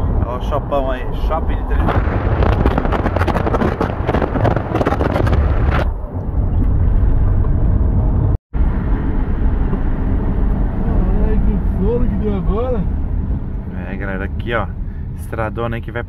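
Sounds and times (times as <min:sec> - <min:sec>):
wind buffeting microphone: 0:00.0 - 0:13.7
engine and tyre rumble: 0:00.0 - 0:16.0.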